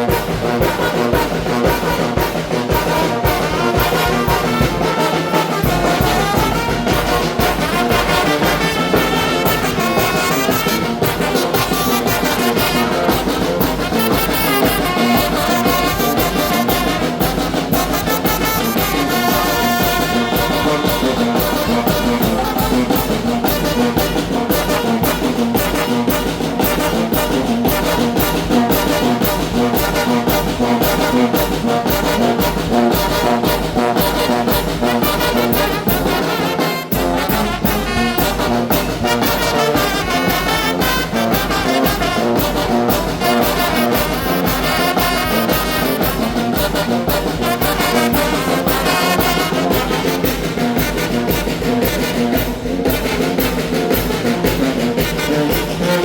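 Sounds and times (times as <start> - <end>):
brass band playing: 0.0 - 56.0
driving percussion beat: 0.0 - 56.0
trombones and trumpets: 0.0 - 56.0.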